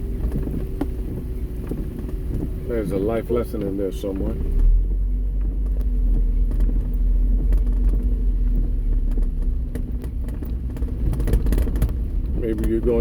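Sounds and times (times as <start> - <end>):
engine and tyres on wet road: 0.0 - 13.0.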